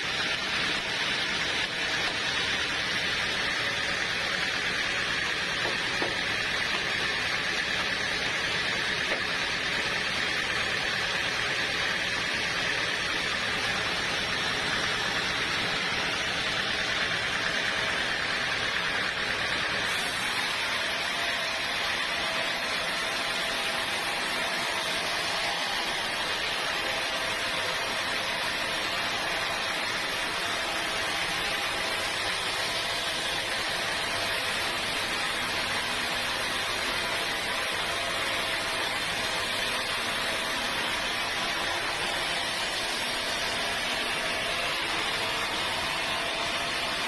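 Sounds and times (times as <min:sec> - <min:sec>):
sawmill saw hiss and whine: 0:00.0 - 0:47.0.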